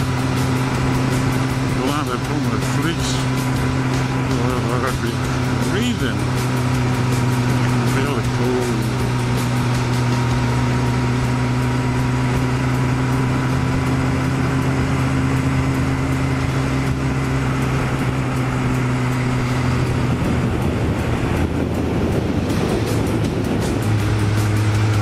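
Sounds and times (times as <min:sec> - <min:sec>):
motorcycle engine cruising: 0:00.0 - 0:25.0
rushing wind: 0:00.0 - 0:25.0.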